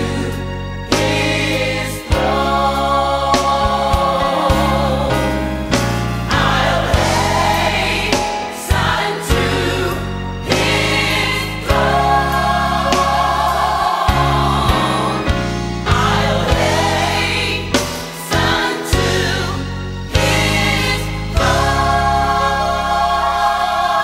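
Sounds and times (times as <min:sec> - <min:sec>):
choir singing a slow hymn: 0:00.0 - 0:24.0
instrumental accompaniment: 0:00.0 - 0:24.0.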